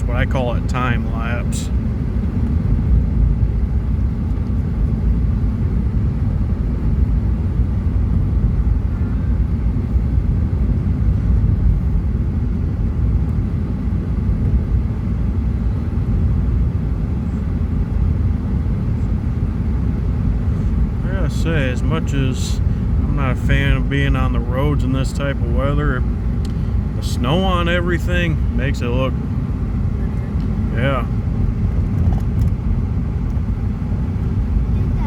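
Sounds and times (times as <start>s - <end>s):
car cabin road rumble: 0.0s - 13.5s, 14.1s - 35.0s.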